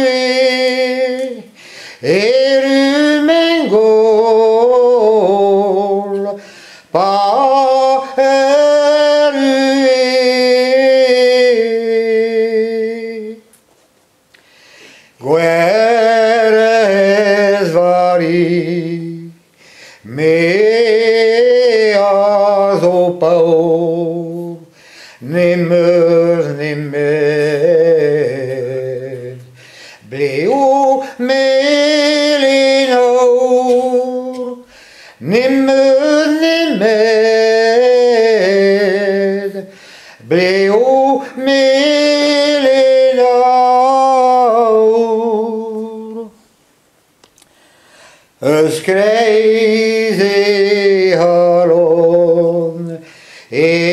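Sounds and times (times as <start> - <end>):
man singing unaccompanied: 0.0 - 13.6, 15.2 - 46.4, 48.4 - 53.9.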